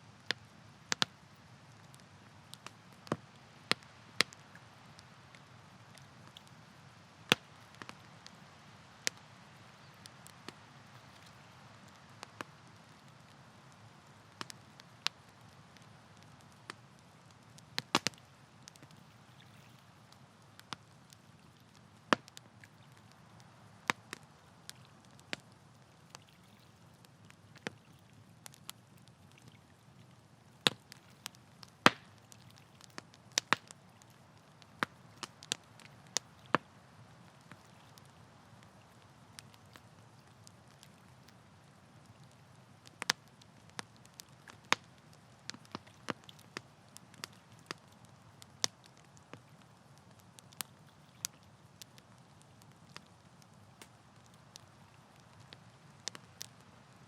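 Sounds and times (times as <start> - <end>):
campfire crackling and popping: 0.0 - 57.0
faint steady hiss: 0.0 - 57.0.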